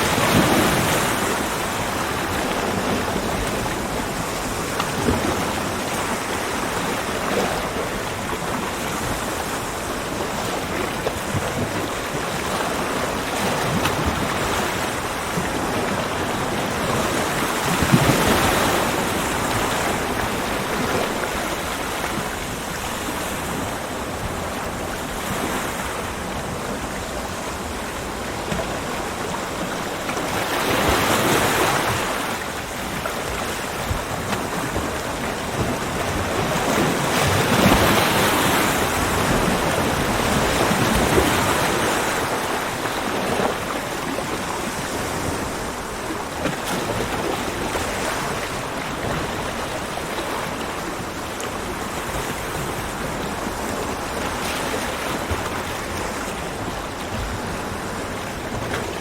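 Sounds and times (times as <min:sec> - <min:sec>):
ocean waves breaking: 0:00.0 - 0:59.0
surf washing: 0:00.0 - 0:59.0.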